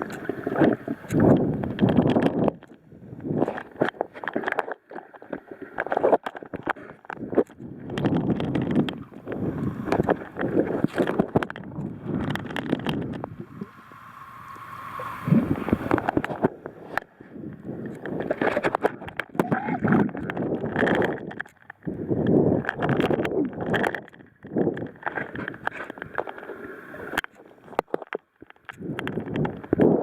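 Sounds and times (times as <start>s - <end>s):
water splashing and gurgling: 0.0s - 30.0s.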